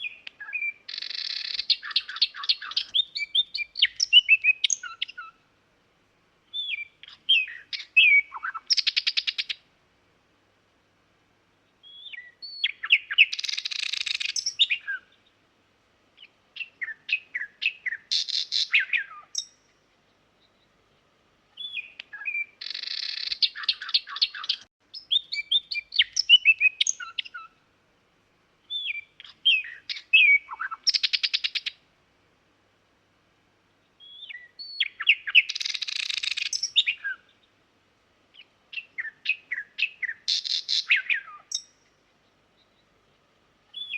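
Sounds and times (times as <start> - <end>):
nightingale singing: 0.0 - 5.4, 6.4 - 9.7, 11.6 - 15.4, 16.2 - 20.8, 21.5 - 27.6, 28.6 - 31.8, 33.8 - 37.6, 38.3 - 43.9.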